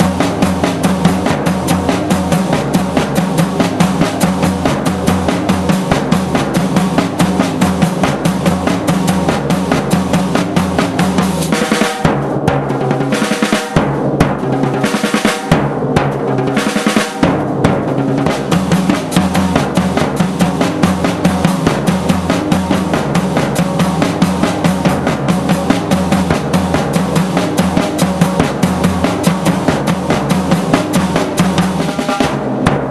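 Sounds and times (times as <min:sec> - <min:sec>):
drums and percussion fast rhythm: 0:00.0 - 0:32.9.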